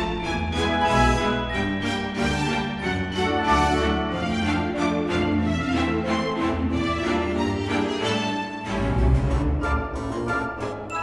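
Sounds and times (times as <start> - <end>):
orchestral strings: 0.0 - 11.0.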